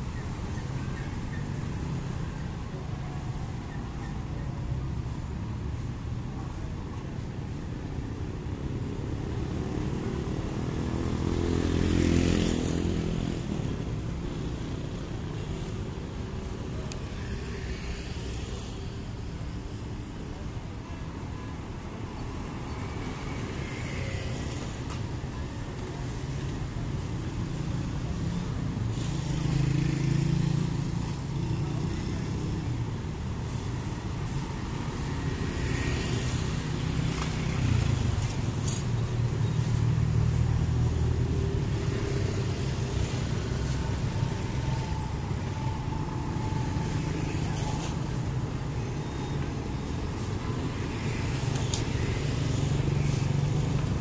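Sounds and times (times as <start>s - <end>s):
cars passing: 0.0s - 54.0s
motor scooters passing: 8.6s - 20.4s, 22.4s - 54.0s.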